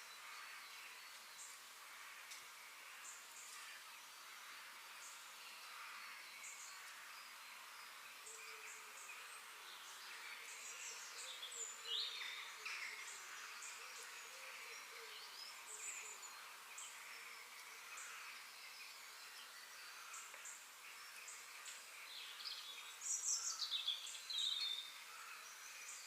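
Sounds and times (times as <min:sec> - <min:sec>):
faint background hiss: 0:00.0 - 0:26.0
small birds chirping: 0:00.0 - 0:26.0.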